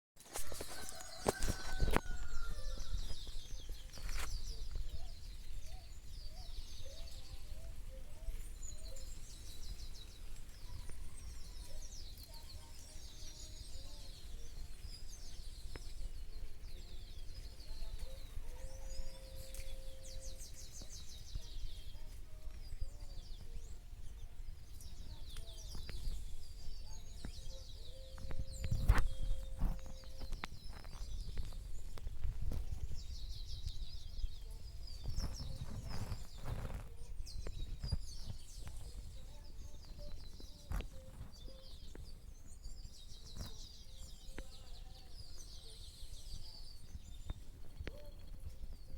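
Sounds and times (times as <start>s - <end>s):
birds chirping: 0.2s - 48.9s.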